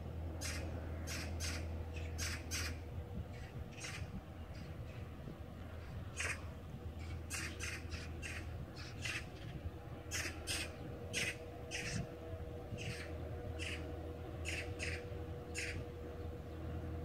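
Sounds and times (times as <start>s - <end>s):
steady low hum: 0.0s - 17.0s
bird calls: 0.4s - 4.8s, 5.8s - 12.1s, 12.7s - 16.7s.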